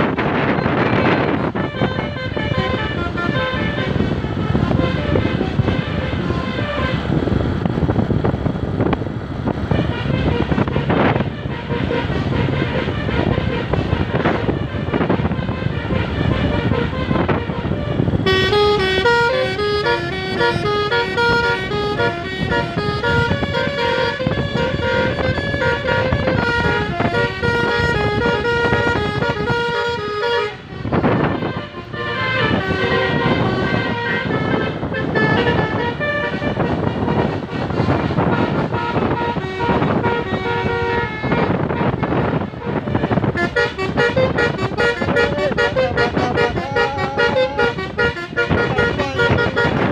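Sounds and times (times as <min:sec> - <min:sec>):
air horn playing melody: 0:00.0 - 0:08.0, 0:09.4 - 0:49.9
road and engine noise: 0:00.0 - 0:49.9.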